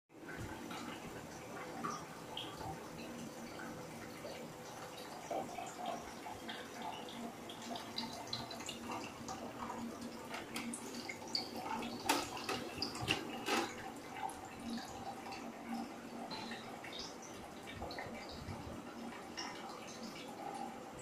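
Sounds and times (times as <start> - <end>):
water dripping and trickling: 0.2 - 21.0.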